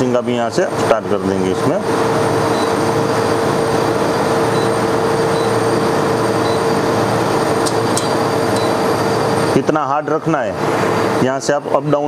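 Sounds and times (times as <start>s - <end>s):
slush machine whirring hum: 0.0s - 12.0s.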